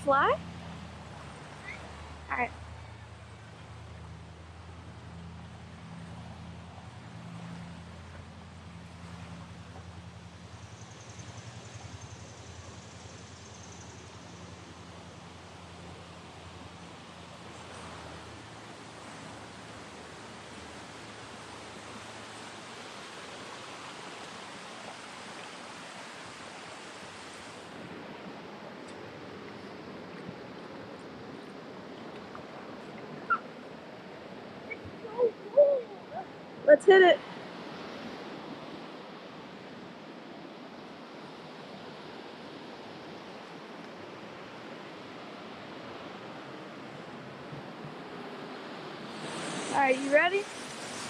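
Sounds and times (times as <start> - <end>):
rushing creek water: 0.0 - 51.0.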